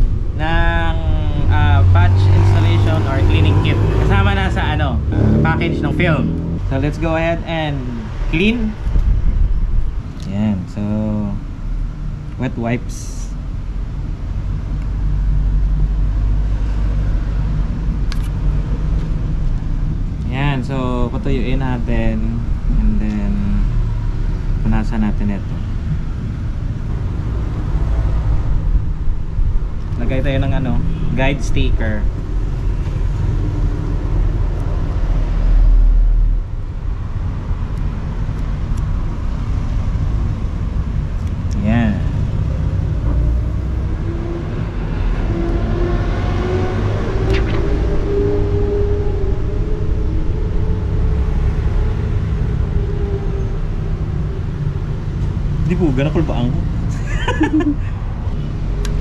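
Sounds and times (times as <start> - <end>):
low rumble of road traffic: 0.0 - 59.0.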